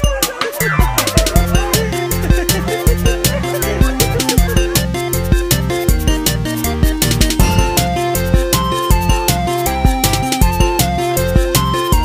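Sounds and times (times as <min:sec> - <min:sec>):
music with driving beat and bass: 0:00.0 - 0:12.0.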